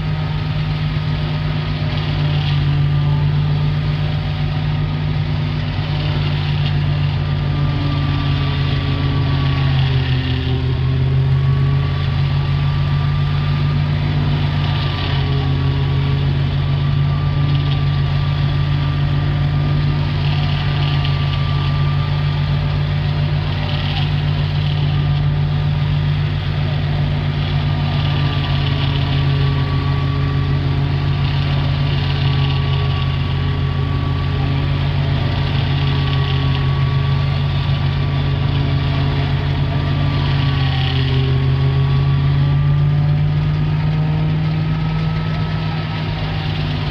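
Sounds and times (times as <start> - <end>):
thin steady whine: 0.0 - 46.9
tractor diesel engine running: 0.0 - 46.9.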